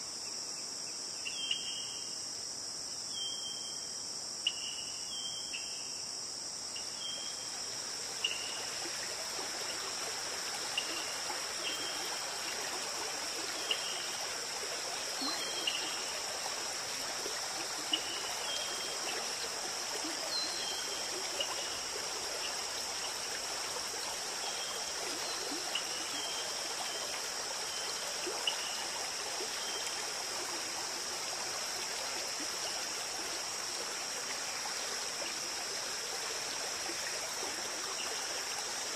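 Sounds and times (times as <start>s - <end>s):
high insect drone: 0.0s - 38.9s
running water: 7.3s - 38.9s.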